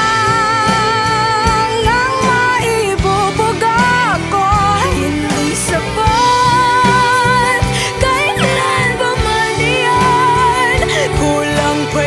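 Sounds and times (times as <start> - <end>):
pop band with steady beat: 0.0 - 12.0
woman singing: 0.0 - 12.0.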